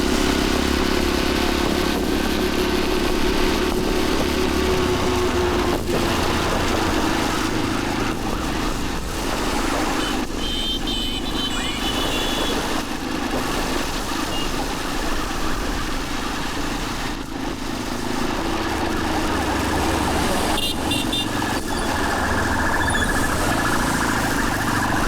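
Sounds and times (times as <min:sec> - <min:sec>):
motorcycle engine running: 0:00.0 - 0:12.4, 0:14.9 - 0:25.0
road and wind noise: 0:00.0 - 0:25.0.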